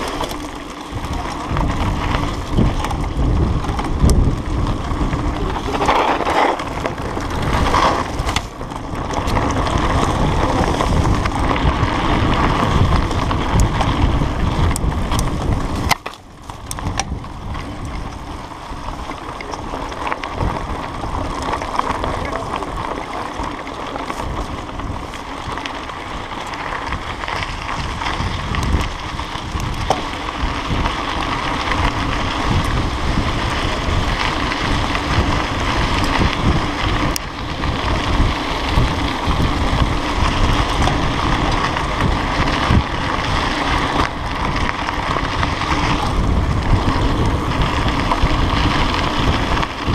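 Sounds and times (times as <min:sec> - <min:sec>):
bike rattling: 0:00.0 - 0:49.9
bike tyres rumbling on gravel: 0:00.0 - 0:49.9
wind buffeting microphone: 0:00.0 - 0:49.9.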